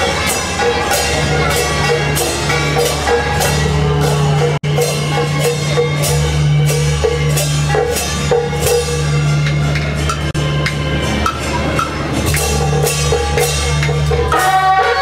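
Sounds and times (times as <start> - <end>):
drum kit beat: 0.0 - 15.0
sustained bass notes: 0.0 - 15.0.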